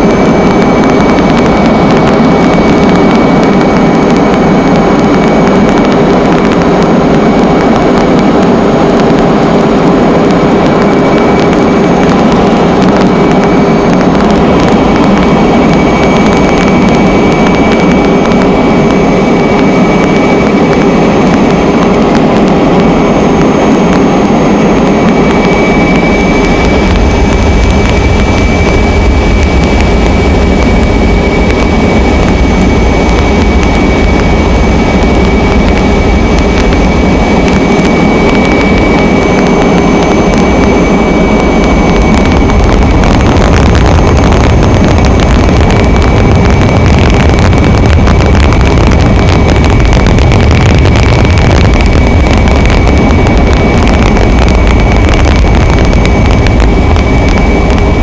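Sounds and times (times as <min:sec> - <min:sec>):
aircraft engine drone: 0:00.0 - 0:58.0
high engine whine: 0:00.0 - 0:58.0.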